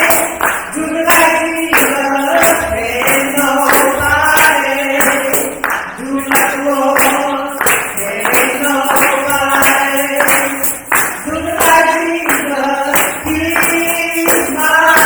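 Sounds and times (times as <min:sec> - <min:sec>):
hand clapping: 0:00.0 - 0:15.0
voices singing a cappella: 0:00.0 - 0:15.0.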